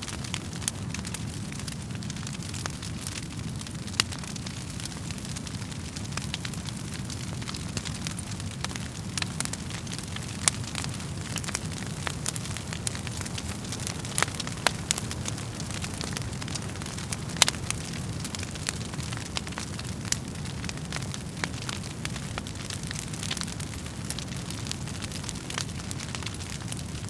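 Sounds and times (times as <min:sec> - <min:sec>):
fire pops and crackles: 0:00.0 - 0:27.0
low rumble of flames: 0:00.0 - 0:27.0.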